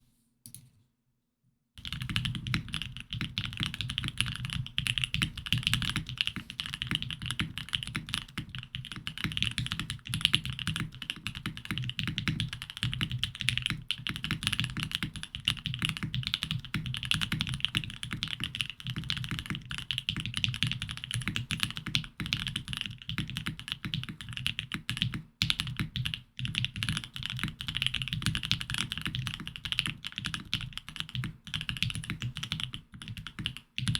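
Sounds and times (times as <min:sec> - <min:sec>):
mechanical keyboard typing: 0:01.8 - 0:33.9.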